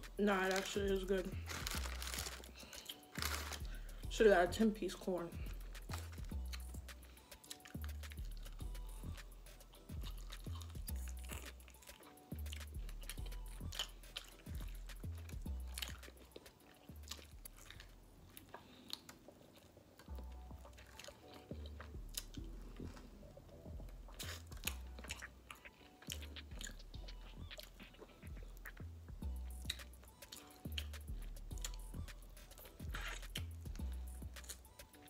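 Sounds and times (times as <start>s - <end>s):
quiet background music with bass: 0.0s - 35.0s
person chewing and biting food: 1.3s - 4.0s, 5.4s - 35.0s.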